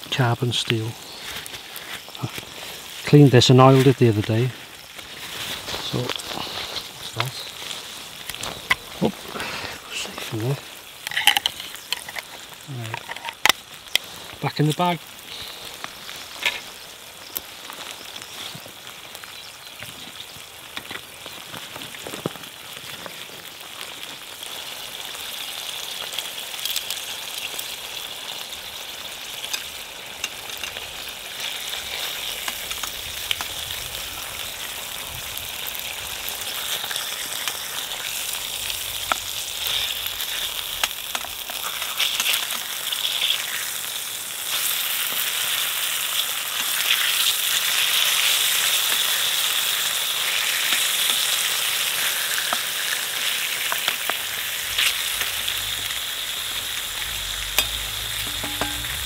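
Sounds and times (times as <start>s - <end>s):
bacon and sausage sizzling: 0.0s - 59.0s.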